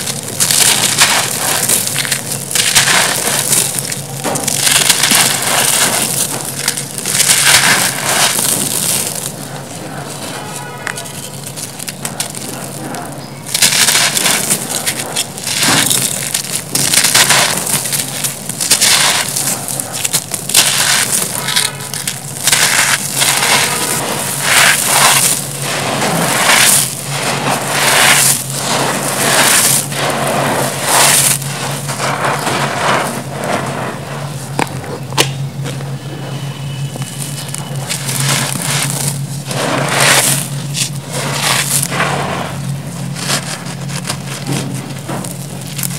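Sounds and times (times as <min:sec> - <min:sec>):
hands crunching gravel and dust: 0:00.0 - 0:45.9.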